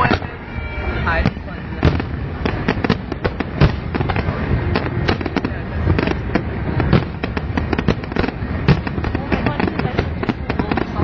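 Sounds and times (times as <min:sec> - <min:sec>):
fireworks bangs and crackling: 0:00.0 - 0:11.0
low rumble of shells bursting: 0:01.2 - 0:11.0.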